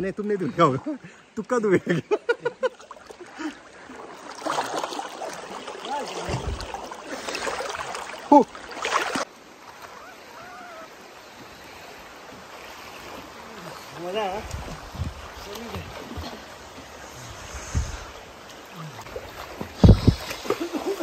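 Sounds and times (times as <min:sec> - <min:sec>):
river flowing: 0:00.0 - 0:21.0
water splashing as person wades: 0:02.6 - 0:17.0, 0:18.3 - 0:21.0.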